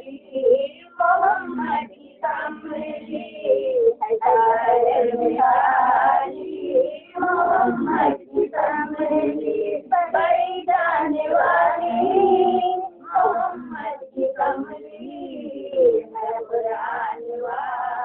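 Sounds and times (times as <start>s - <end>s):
high voice singing devotional song: 0.0s - 18.0s.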